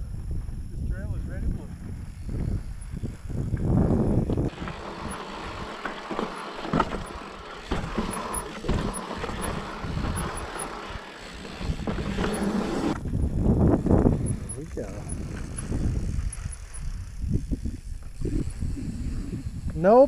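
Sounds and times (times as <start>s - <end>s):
wind buffeting microphone: 0.0s - 5.8s, 6.7s - 20.0s
bike rattling: 1.6s - 20.0s.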